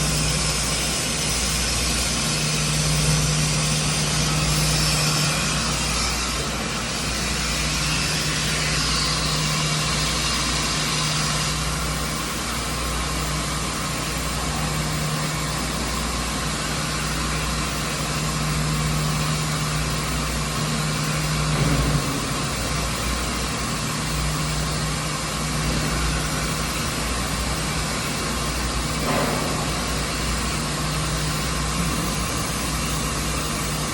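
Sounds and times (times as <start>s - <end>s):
noisy background: 0.0s - 33.9s
workshop machine hum: 0.0s - 33.9s.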